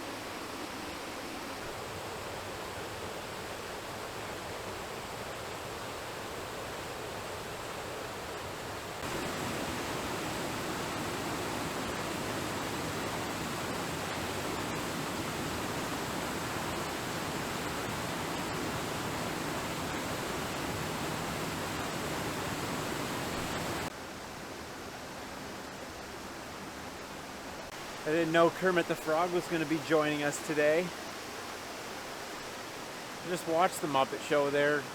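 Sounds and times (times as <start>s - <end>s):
creek waterfall rushing: 0.0s - 25.5s, 27.2s - 34.9s.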